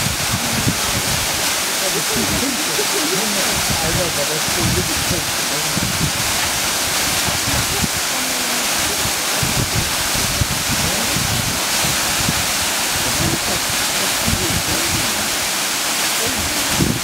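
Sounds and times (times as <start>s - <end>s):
wind buffeting microphone: 0.0s - 15.5s, 16.2s - 17.0s
waterfall rushing: 0.0s - 17.0s.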